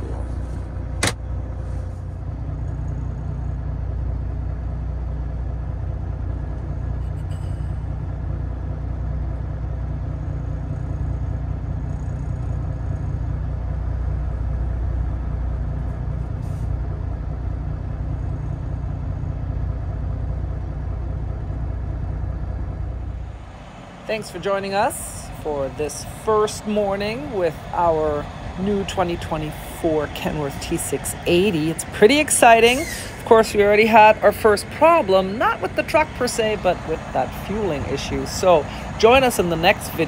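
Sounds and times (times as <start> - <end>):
road noise: 0.0 - 40.0
truck engine low rumble: 0.0 - 40.0.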